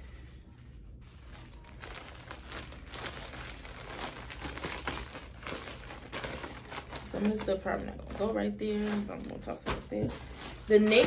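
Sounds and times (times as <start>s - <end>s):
clothes rustling and crinkling: 0.0s - 11.0s.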